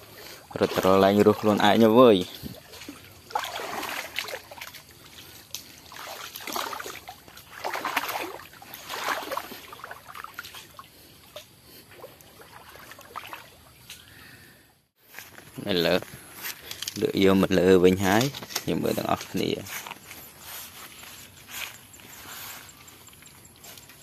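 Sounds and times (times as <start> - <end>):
creek water sloshing and trickling: 0.0 - 24.0.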